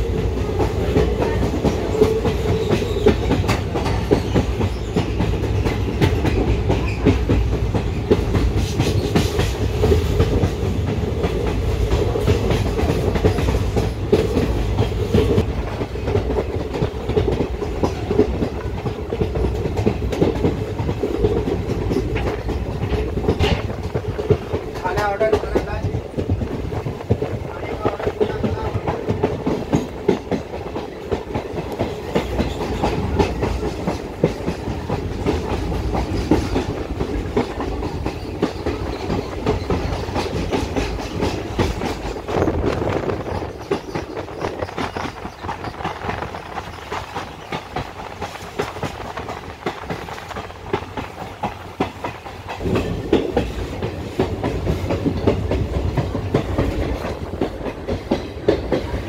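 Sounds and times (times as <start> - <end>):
train rumbling: 0.0 - 59.0
wheels clacking over rail joints: 0.0 - 59.0.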